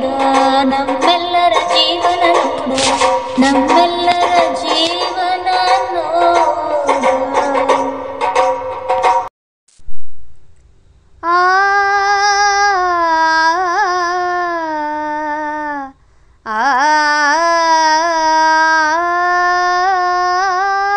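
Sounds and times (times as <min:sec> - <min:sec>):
high singing voice: 0:00.0 - 0:08.3, 0:11.2 - 0:20.9.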